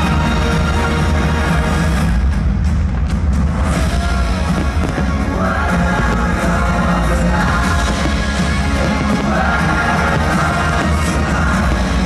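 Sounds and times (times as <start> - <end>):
heavy bass line: 0.0 - 12.0
loud music with singing: 0.0 - 12.0.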